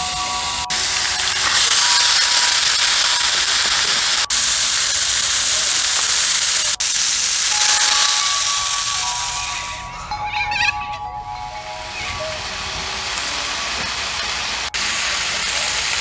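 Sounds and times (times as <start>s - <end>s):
food sizzling in hot oil: 0.0s - 9.9s, 11.6s - 16.0s.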